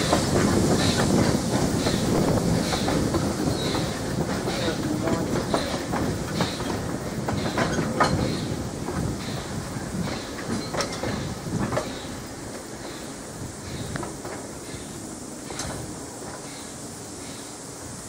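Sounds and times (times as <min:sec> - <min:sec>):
wheels clicking over rail joints: 0:00.0 - 0:17.5
railway carriages rolling past: 0:00.0 - 0:18.0.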